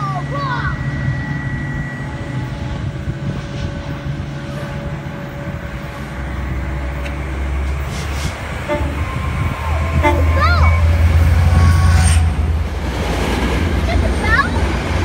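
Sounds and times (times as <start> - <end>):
diesel train rumble: 0.0 - 15.0.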